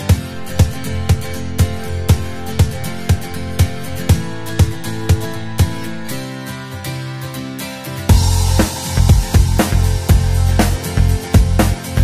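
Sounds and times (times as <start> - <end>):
instrumental music with plucked notes: 0.0 - 12.0.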